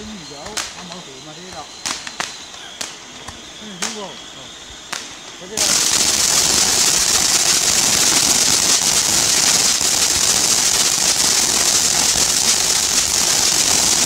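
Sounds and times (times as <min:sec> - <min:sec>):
firework crackling hiss: 0:00.0 - 0:14.0.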